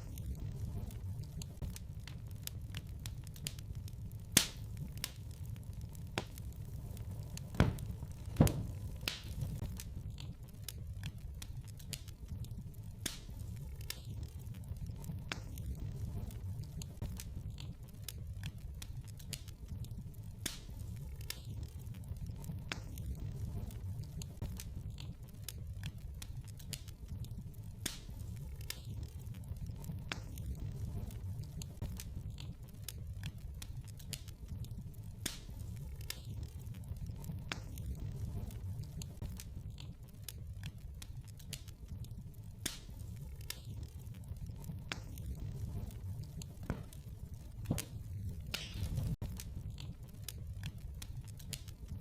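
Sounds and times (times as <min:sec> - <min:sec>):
fire crackles and pops: 0:00.0 - 0:52.0
wood fire rumbling: 0:00.0 - 0:52.0.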